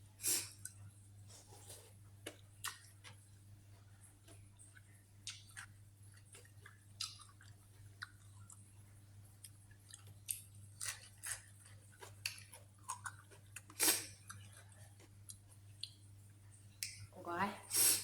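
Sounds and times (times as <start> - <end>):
person chewing and smacking: 0.6 - 16.1.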